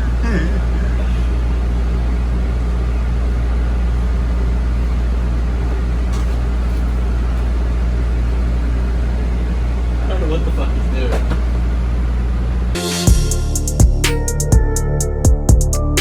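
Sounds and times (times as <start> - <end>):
truck engine running steadily: 0.0 - 14.5.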